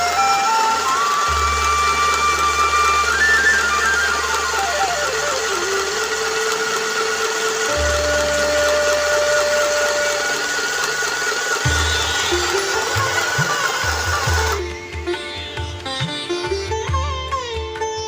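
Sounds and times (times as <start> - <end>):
sewing machine motor whirring: 0.0 - 14.9
instrumental background music: 0.0 - 18.0.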